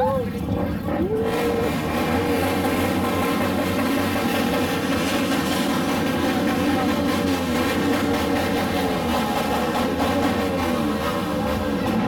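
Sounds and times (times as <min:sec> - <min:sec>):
motor scooters revving: 0:00.0 - 0:12.0.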